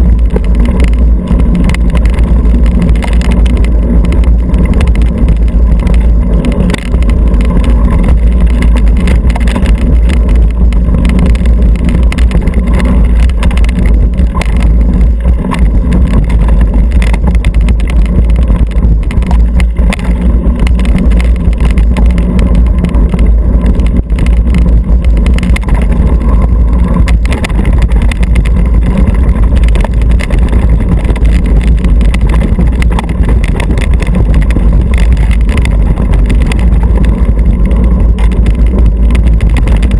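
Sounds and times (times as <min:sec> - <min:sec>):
bike rattling and clicking: 0:00.0 - 0:39.9
tyres running on dirt: 0:00.0 - 0:39.9
wind rumbling on microphone: 0:00.0 - 0:39.9.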